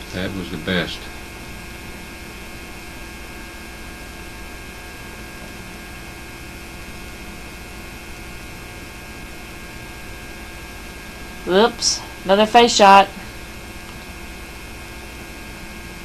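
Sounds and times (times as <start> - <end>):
electrical mains hum: 0.0 - 16.0
tape hiss: 0.0 - 16.0.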